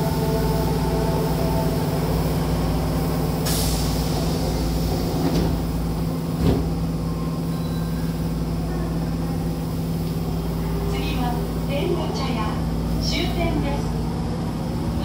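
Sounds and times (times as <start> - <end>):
train hum: 0.0 - 15.0.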